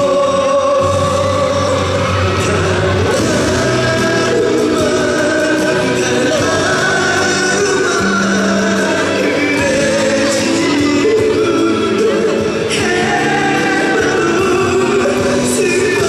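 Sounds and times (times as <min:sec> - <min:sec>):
instrumental accompaniment: 0:00.0 - 0:16.0
man singing: 0:00.0 - 0:16.0.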